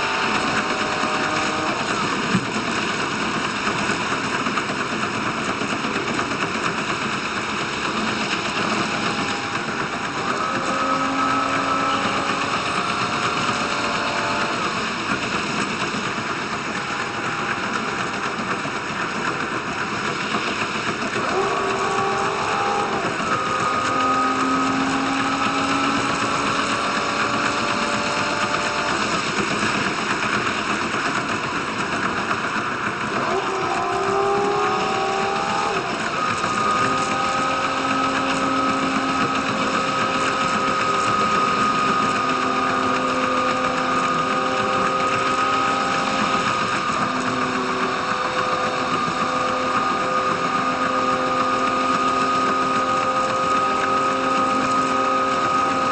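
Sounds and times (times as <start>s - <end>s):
diesel engine drone: 0.0s - 55.9s
railcar running gear rumble: 0.0s - 55.9s.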